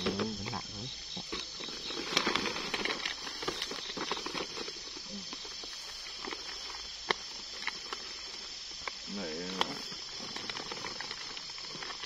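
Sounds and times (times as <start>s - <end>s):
insects chirring: 0.0s - 12.0s
plastic sack rustling: 1.4s - 8.5s, 9.4s - 12.0s.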